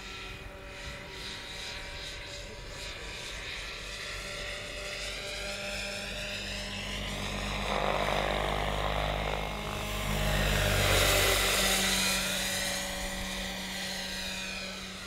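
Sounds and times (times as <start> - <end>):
model helicopter flying: 0.0 - 15.0.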